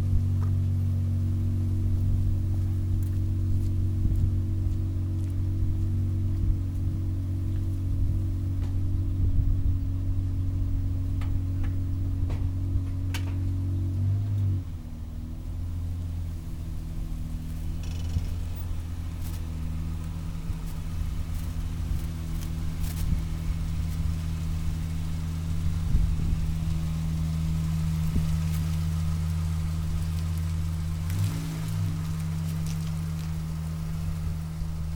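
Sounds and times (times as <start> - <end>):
low car exhaust drone: 0.0 - 34.9.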